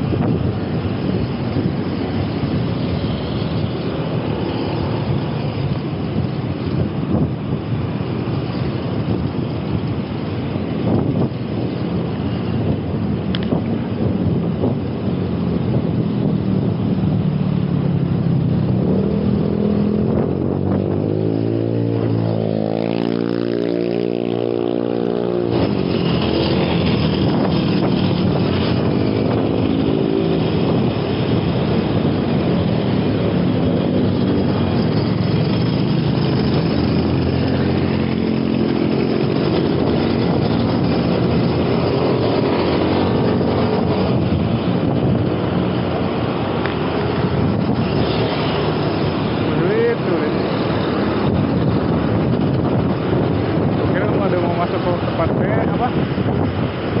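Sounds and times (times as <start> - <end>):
road traffic passing: 0.0 - 57.0
steady rushing noise: 0.0 - 57.0.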